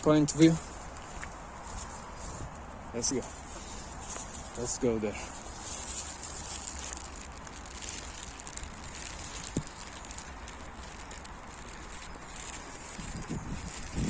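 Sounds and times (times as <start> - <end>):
footsteps crunching on dry path: 0.0 - 14.0.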